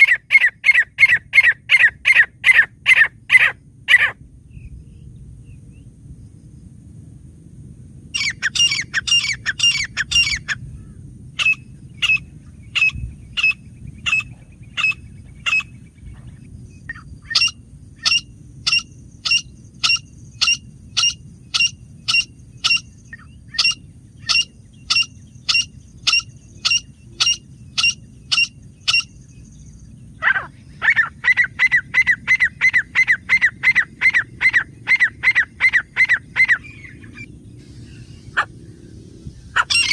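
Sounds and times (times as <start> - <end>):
francolin calling: 0.0 - 4.7, 8.2 - 15.8, 16.7 - 38.5, 39.5 - 39.9.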